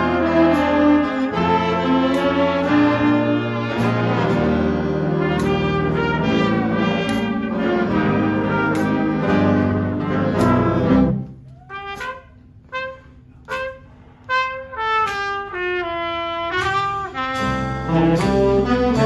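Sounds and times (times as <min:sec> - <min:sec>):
jazz big band playing: 0:00.0 - 0:19.0.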